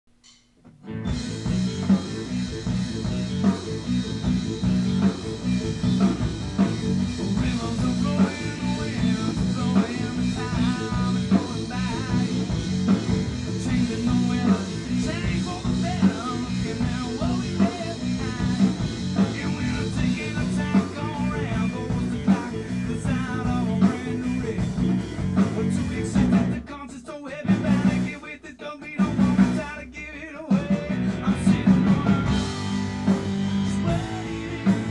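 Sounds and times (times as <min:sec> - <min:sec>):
blues-rock band playing: 0:00.7 - 0:34.9.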